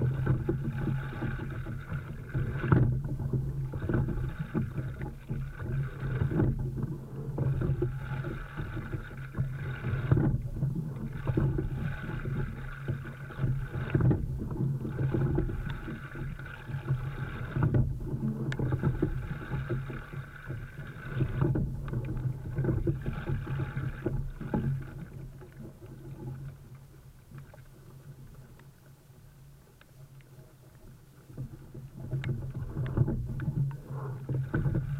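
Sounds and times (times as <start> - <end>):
water splashing along boat hull: 0.0 - 34.9.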